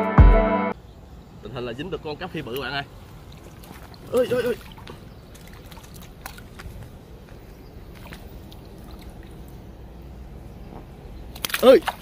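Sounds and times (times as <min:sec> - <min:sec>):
small water splashes and drips: 0:02.1 - 0:12.0.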